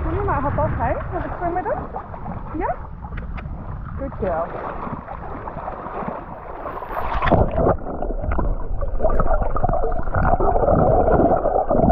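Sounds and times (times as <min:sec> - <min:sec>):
water sloshing and splashing: 0:00.0 - 0:11.9.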